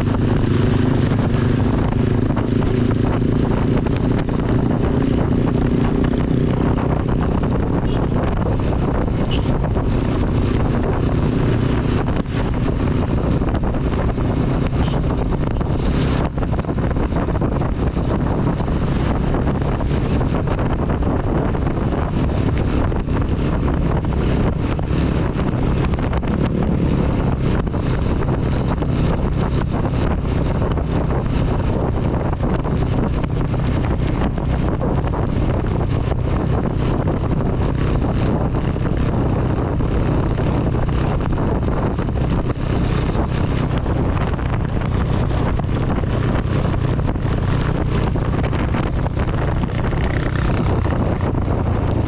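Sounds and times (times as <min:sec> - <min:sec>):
motorcycle engine cruising: 0:00.0 - 0:52.0
wind buffeting microphone: 0:00.0 - 0:52.0.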